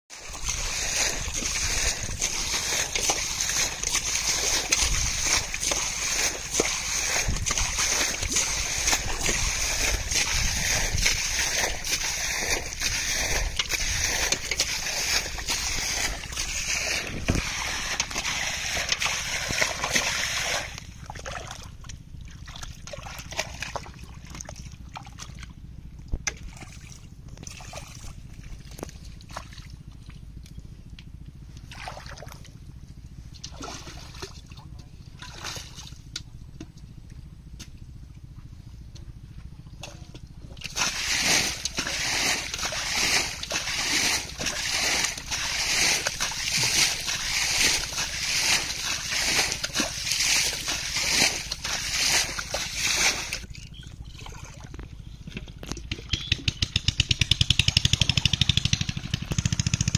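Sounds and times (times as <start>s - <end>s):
mud squelching and dripping: 0.1s - 59.9s
muddy water splashing: 0.1s - 59.9s.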